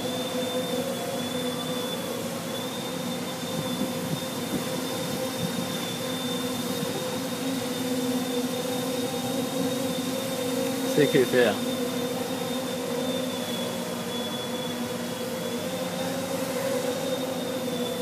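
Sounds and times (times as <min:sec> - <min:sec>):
quadcopter motors humming: 0:00.0 - 0:18.0.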